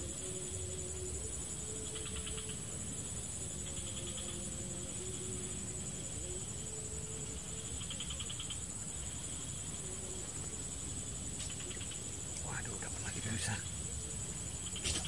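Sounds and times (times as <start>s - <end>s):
insects trilling: 0.0s - 15.0s
rapid insect chirps: 0.0s - 15.0s.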